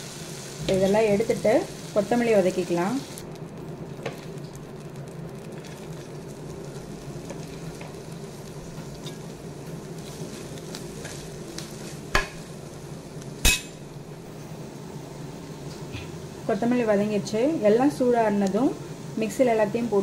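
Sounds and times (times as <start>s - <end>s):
oil sizzling in a frying pan: 0.0s - 14.5s, 15.2s - 20.0s.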